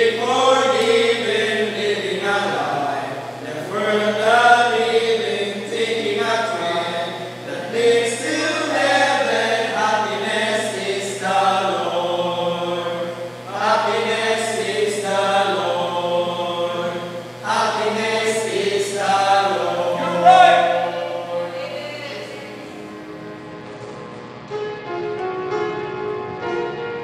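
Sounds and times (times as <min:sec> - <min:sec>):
male vocal group singing hymn: 0:00.0 - 0:22.8.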